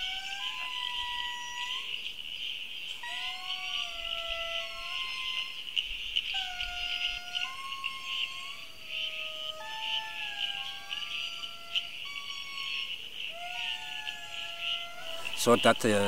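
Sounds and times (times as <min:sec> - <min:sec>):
lemurs wailing in chorus: 0:00.0 - 0:02.2, 0:02.8 - 0:16.0.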